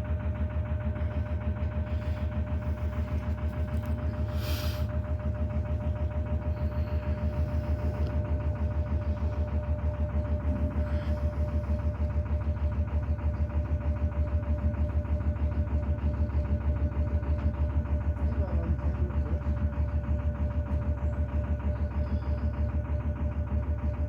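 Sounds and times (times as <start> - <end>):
diesel boat engine throbbing: 0.0 - 24.0.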